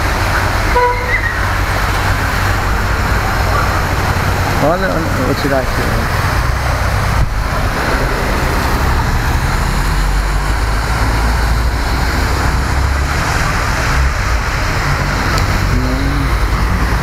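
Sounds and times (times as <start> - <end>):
heavy rain: 0.0 - 17.0
tyres splashing through water: 0.0 - 17.0.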